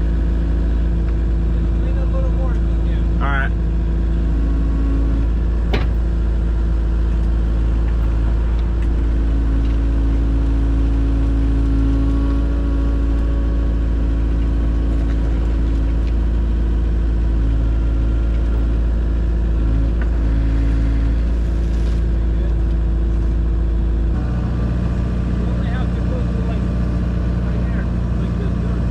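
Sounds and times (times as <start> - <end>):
heavy diesel engine running: 0.0 - 28.9.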